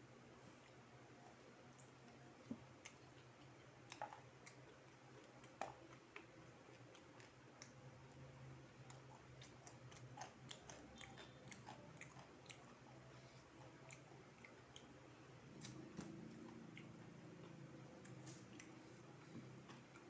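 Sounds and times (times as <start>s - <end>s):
chewing crispy fried chicken: 0.6s - 20.0s.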